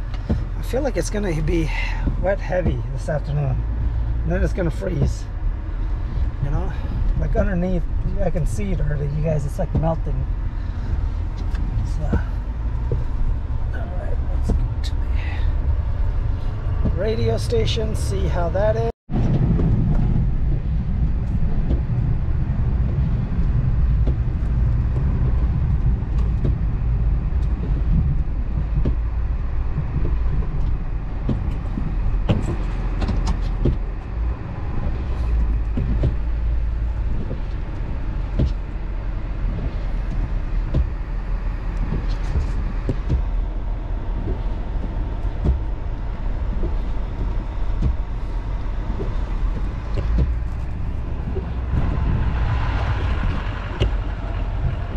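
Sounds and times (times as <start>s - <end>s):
light clicks and knocks: 0.0s - 15.0s, 15.7s - 54.9s
vehicle engine and road rumble: 0.0s - 54.9s.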